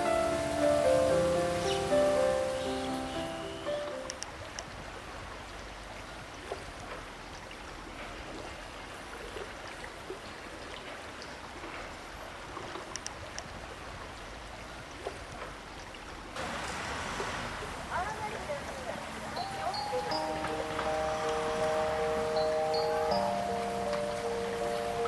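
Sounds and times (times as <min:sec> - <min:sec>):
stream running: 0:00.0 - 0:25.0.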